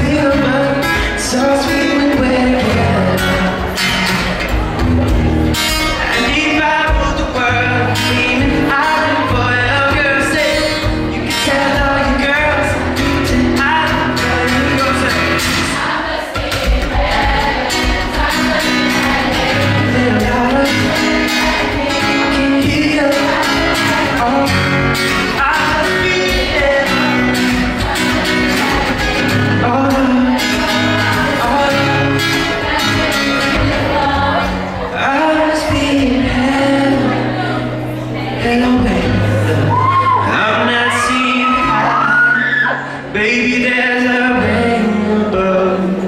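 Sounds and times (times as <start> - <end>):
live pop band with vocals: 0.0 - 46.0.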